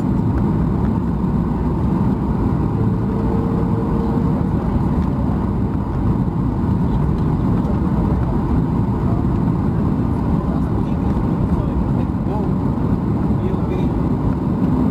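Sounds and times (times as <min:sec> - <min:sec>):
airplane engines rumbling in cabin: 0:00.0 - 0:14.9.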